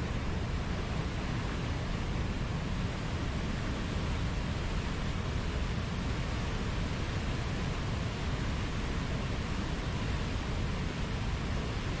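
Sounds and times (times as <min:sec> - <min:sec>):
river rapids and waterfall rushing: 0:00.0 - 0:12.0.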